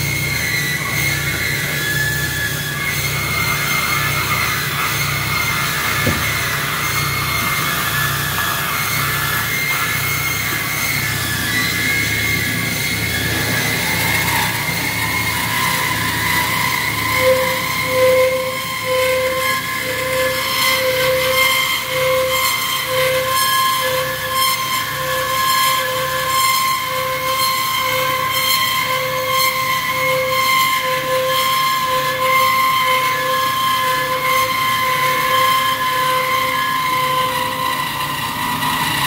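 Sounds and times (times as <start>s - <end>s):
band saw cutting steel: 0.0s - 39.0s.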